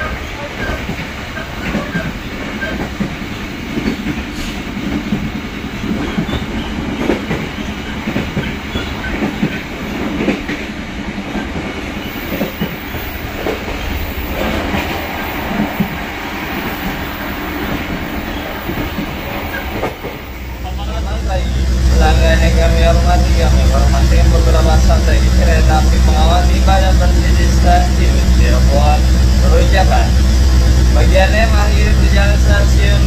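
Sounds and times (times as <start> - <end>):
train rolling noise: 0.0 - 33.0.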